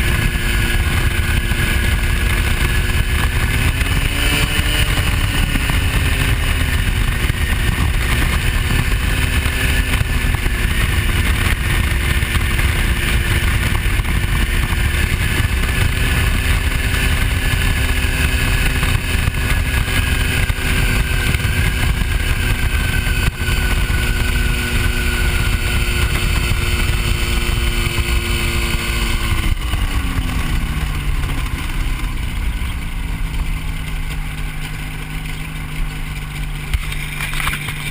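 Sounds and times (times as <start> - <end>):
ultralight aircraft engine: 0.0 - 37.9.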